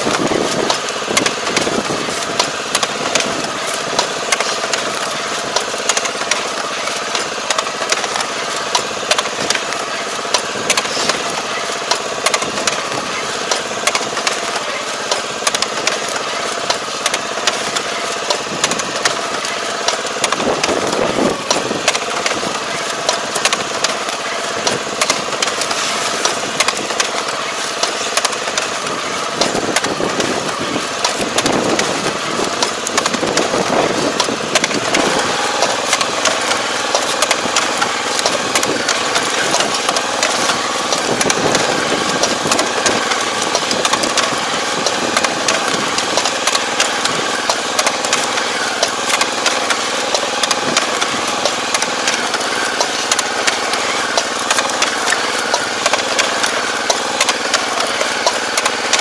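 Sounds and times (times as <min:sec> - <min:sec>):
engine drone: 0:00.0 - 0:59.0
machine clicking and clatter: 0:00.0 - 0:59.0.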